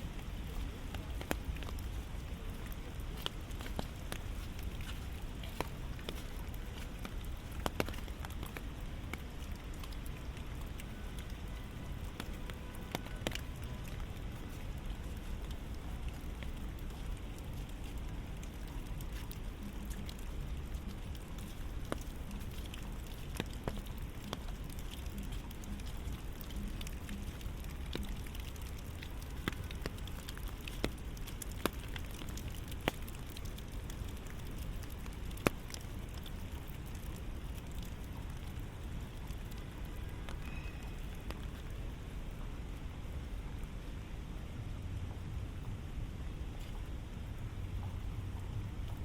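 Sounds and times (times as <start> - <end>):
raindrops ticking close by: 0.0 - 49.0
steady rain falling: 0.0 - 49.0.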